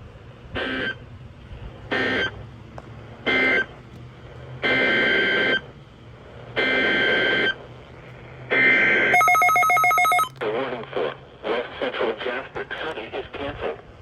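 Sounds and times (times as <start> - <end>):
low radio hum: 0.0 - 14.0.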